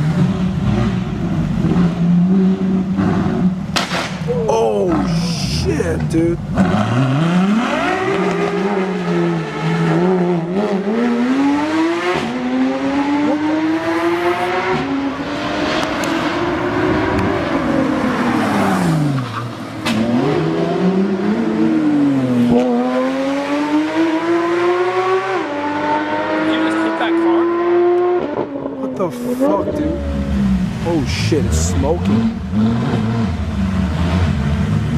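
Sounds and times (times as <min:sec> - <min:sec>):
car engine revving hard: 0:04.9 - 0:28.7, 0:29.4 - 0:34.9.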